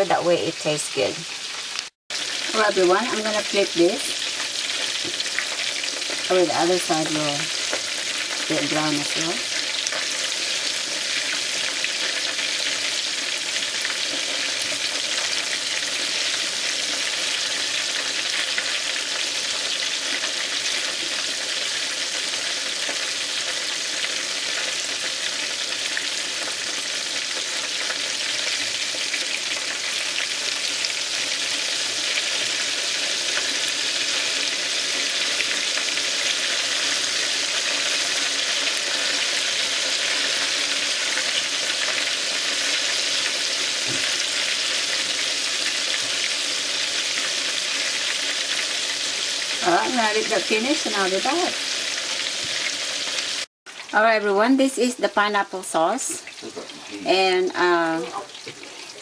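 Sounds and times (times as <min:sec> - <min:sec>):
chicken wings sizzling in oil: 0:00.0 - 0:59.0.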